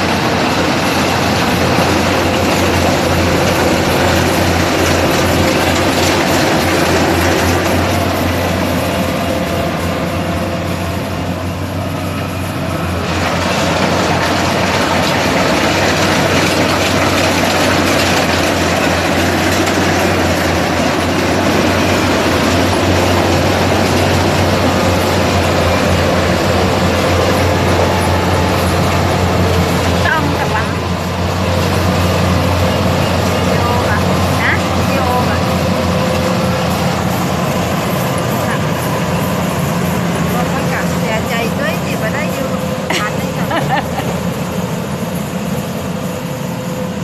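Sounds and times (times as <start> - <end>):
harvester engine hum: 0.0 - 47.0.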